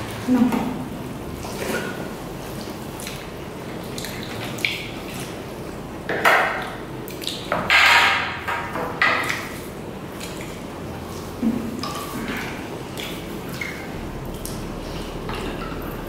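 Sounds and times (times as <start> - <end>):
food mixed by hand on plates: 0.0 - 16.0.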